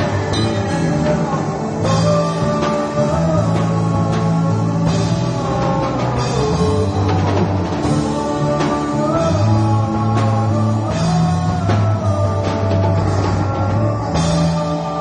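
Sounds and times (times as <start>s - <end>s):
drum kit beating: 0.0s - 15.0s
low guitar notes: 0.0s - 15.0s
rock band playing: 0.0s - 15.0s.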